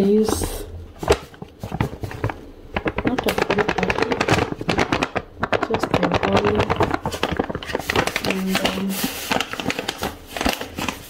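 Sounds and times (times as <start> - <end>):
paper packet crinkling: 1.0 - 11.0.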